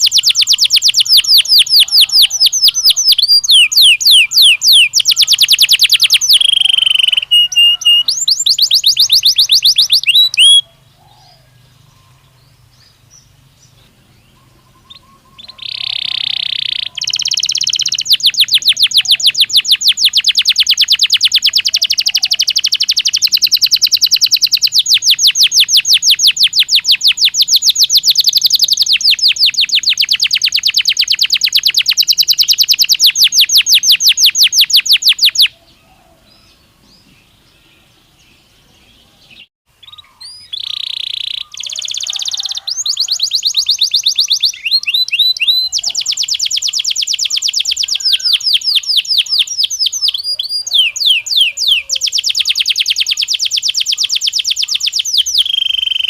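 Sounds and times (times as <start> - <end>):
canary trilling: 0.0 - 10.7, 14.5 - 35.6, 39.8 - 56.0.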